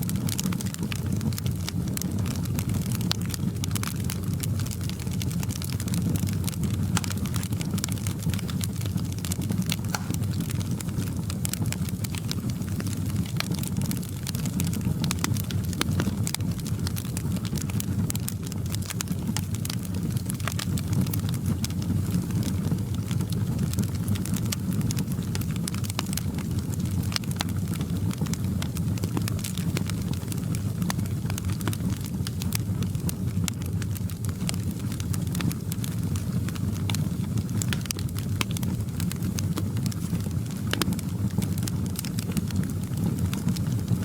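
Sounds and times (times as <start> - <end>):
fireplace crackling and popping: 0.0 - 44.0.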